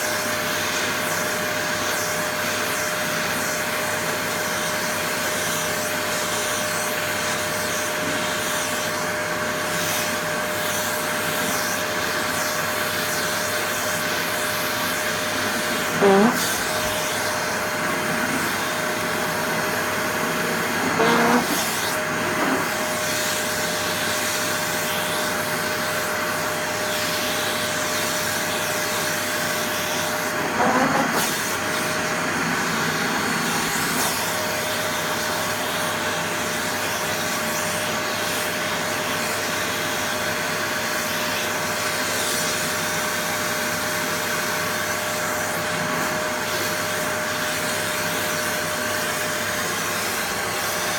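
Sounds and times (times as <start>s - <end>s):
vacuum cleaner whining: 0.0s - 50.9s.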